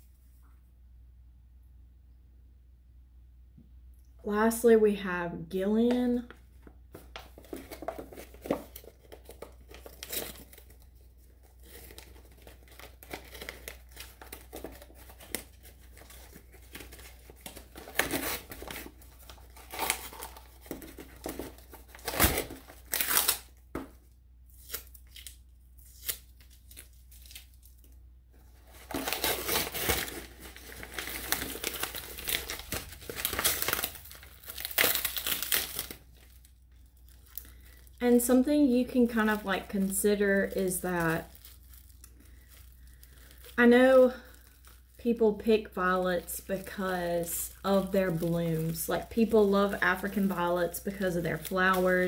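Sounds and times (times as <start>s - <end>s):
paper crinkling and tearing: 6.9s - 23.6s, 24.5s - 27.9s, 28.5s - 45.0s, 46.2s - 52.0s.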